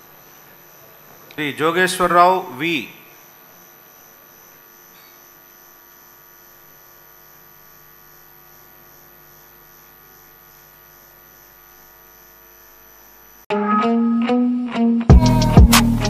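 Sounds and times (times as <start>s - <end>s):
faint electrical hum: 0.0s - 13.5s.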